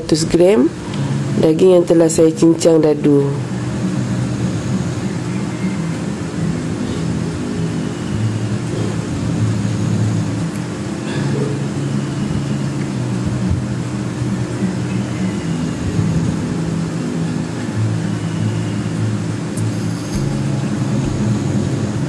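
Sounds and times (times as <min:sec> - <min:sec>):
low hum: 0:03.4 - 0:22.0.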